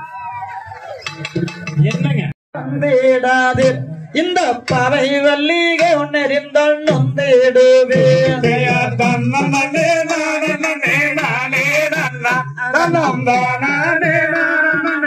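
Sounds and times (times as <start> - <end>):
man singing folk song: 2.6 - 15.0.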